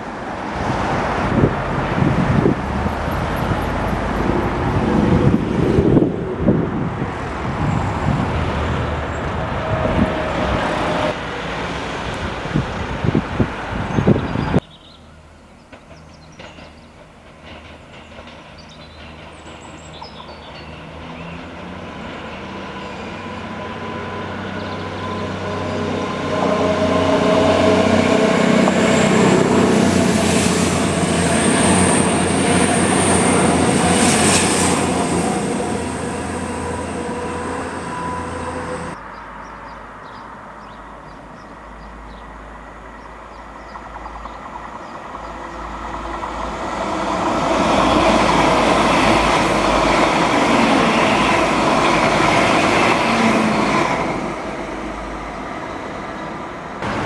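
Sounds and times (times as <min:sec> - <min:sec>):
diesel train approaching: 0:00.0 - 0:57.0
diesel train passing: 0:00.0 - 0:57.0.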